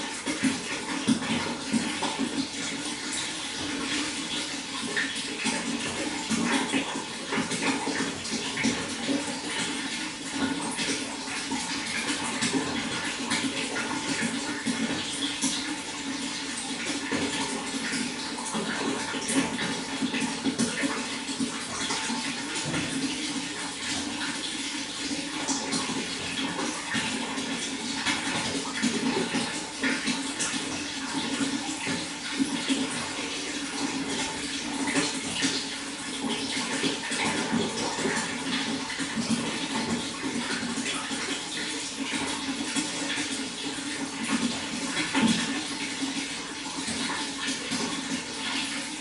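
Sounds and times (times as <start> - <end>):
running water with small splashes: 0.0 - 49.0.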